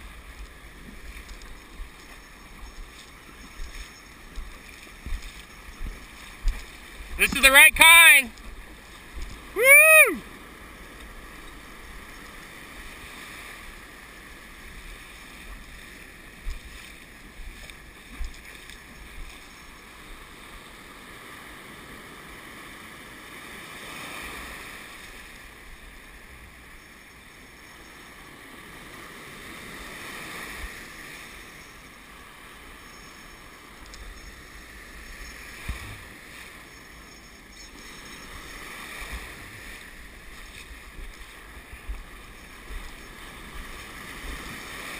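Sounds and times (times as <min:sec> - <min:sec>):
ocean surf washing: 0:00.0 - 0:44.9
waves breaking: 0:00.0 - 0:44.9.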